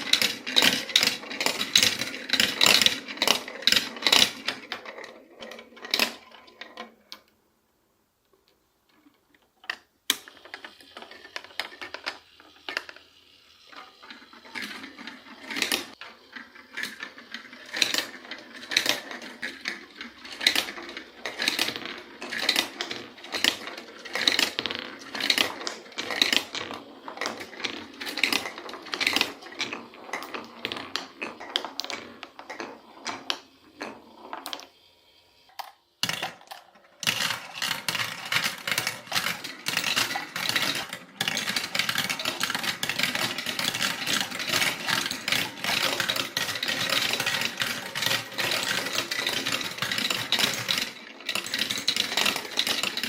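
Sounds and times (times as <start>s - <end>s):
marbles rolling and clacking: 0.0s - 7.3s, 8.9s - 34.8s, 35.5s - 53.0s.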